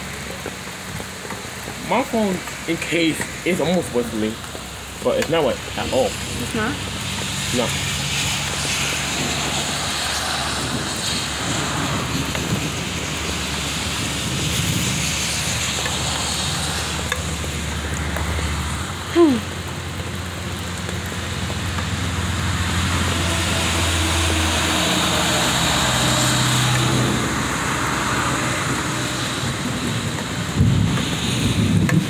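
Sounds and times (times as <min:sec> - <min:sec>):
heavy rain: 0:00.0 - 0:32.0
traffic passing on wet road: 0:00.0 - 0:32.0.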